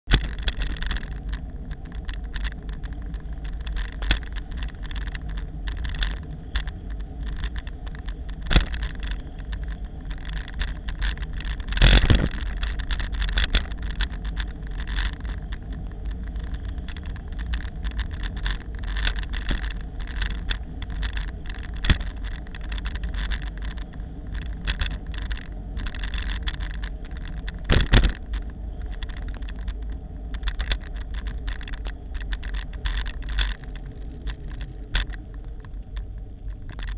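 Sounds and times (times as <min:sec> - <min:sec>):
road vibration rumble: 0:00.0 - 0:36.9
wind buffeting microphone: 0:00.0 - 0:36.9.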